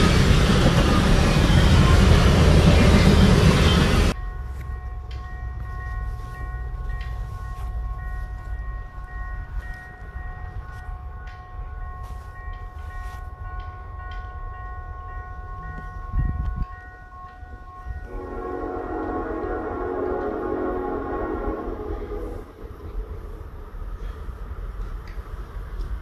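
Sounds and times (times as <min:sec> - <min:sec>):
crossing bells ringing: 0:00.0 - 0:23.0
low rumble of approaching train: 0:00.0 - 0:26.0.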